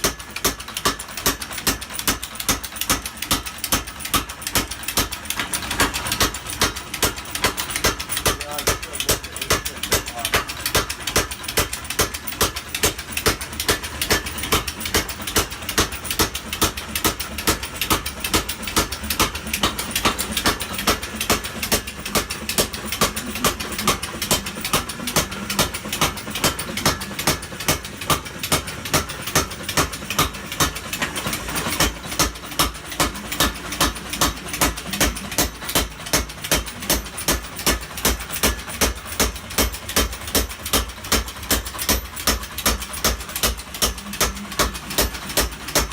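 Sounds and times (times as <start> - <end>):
machine running noise: 0.0 - 45.9.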